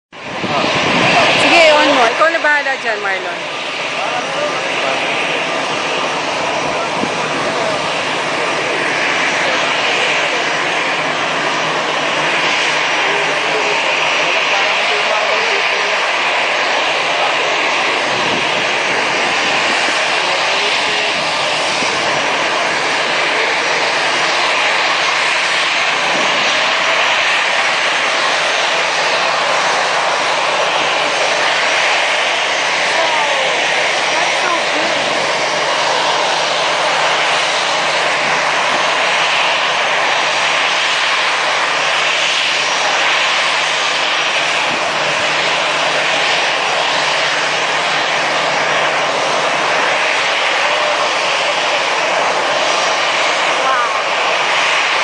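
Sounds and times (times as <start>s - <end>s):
jet airliner engines rushing: 0.1s - 55.0s.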